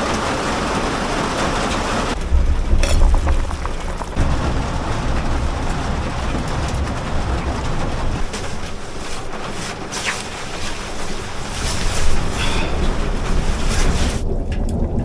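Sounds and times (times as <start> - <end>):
heavy rain hissing: 0.0 - 14.4
ticks of raindrops: 0.0 - 15.0
strong low rumble: 2.1 - 15.0.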